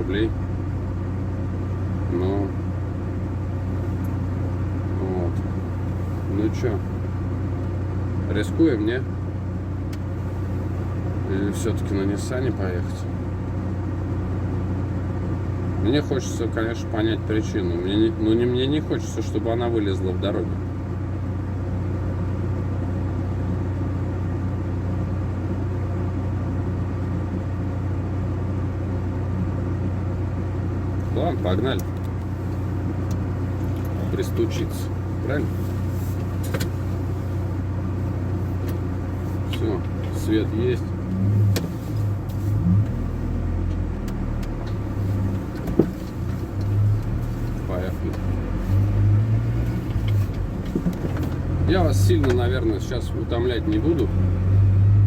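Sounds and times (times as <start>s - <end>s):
van engine idling: 0.0s - 55.0s.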